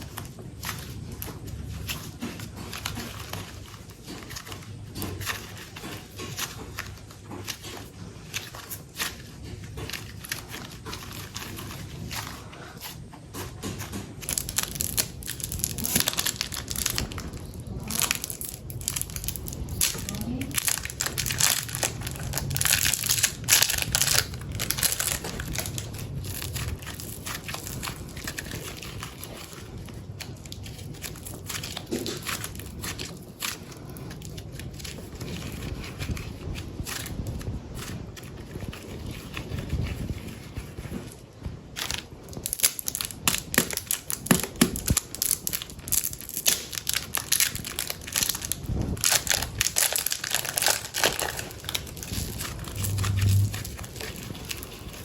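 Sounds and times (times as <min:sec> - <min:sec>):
clay squishing and crackling: 0:00.0 - 0:55.0.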